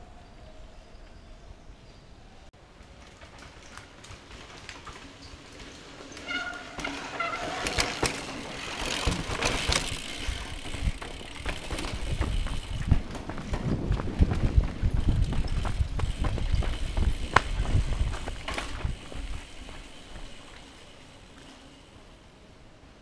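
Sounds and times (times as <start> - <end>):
bike chain and frame rattling: 2.6 - 22.0
bike tyres rolling over dirt: 2.6 - 22.3.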